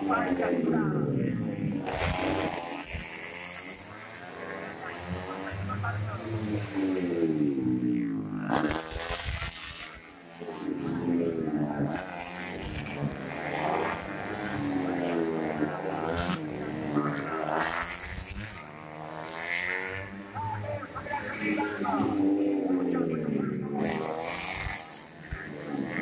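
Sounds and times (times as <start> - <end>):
motorcycles braking and accelerating: 0.0 - 26.0.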